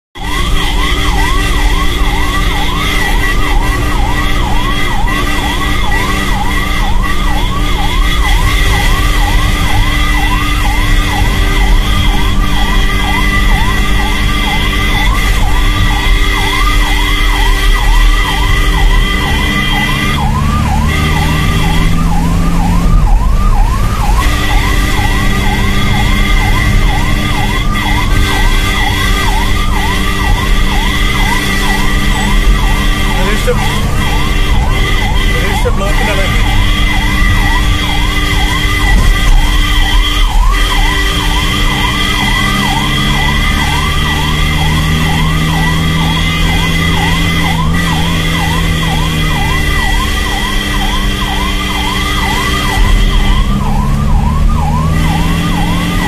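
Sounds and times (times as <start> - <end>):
ambulance siren wailing: 0.0 - 56.0
steady high siren tones: 0.1 - 56.0.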